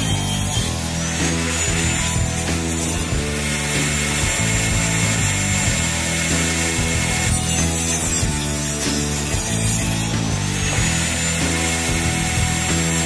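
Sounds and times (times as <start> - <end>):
background music: 0.0 - 13.0
saw blade spinning: 0.0 - 13.0
table saw ripping wood: 0.0 - 13.0.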